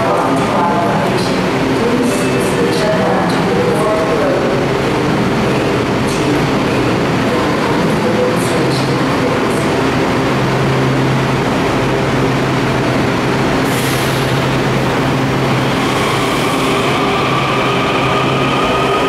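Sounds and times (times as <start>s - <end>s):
train low hum: 0.0s - 19.0s.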